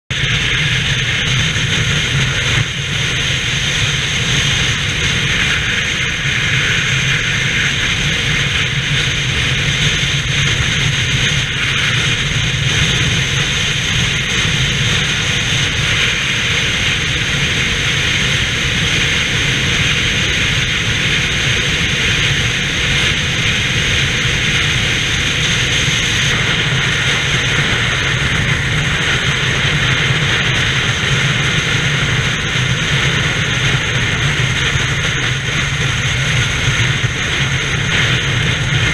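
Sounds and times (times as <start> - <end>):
wind and tyre noise: 0.0 - 38.9
low hum: 0.1 - 38.9
wind buffeting microphone: 0.1 - 38.9.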